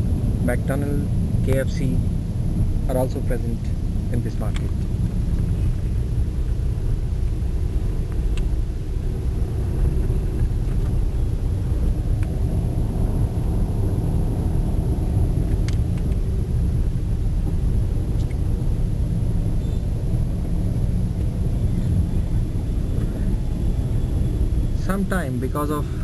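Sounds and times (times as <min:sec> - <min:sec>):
car rumbling in traffic: 0:00.0 - 0:26.0.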